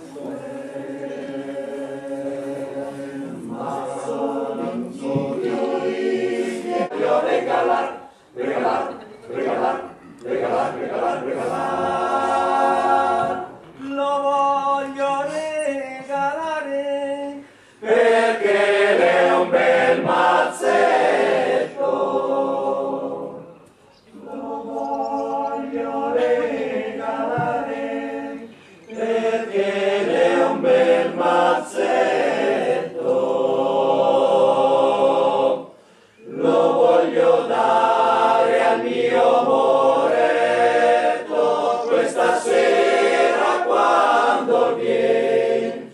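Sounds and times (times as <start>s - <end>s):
choir singing a cappella: 0.0s - 13.8s, 17.3s - 45.9s.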